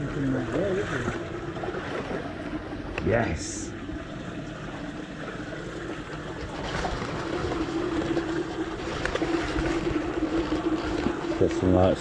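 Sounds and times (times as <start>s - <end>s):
light splashing of wading: 0.0s - 12.0s
stream water running: 0.0s - 12.0s.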